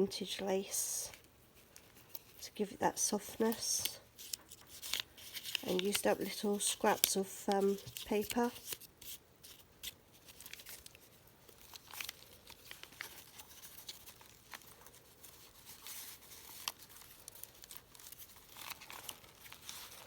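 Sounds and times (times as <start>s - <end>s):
paper pages rustling: 1.6s - 2.4s, 3.2s - 20.0s.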